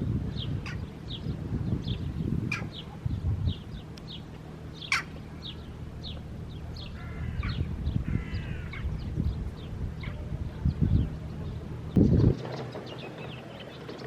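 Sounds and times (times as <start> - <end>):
low rumble: 0.0 - 13.7
birds chirping: 0.0 - 14.0
harsh bird calls: 0.3 - 14.0.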